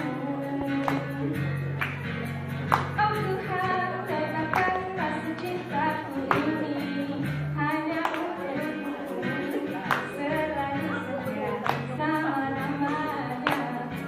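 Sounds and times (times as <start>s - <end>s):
woman singing: 0.0s - 1.6s, 2.8s - 14.0s.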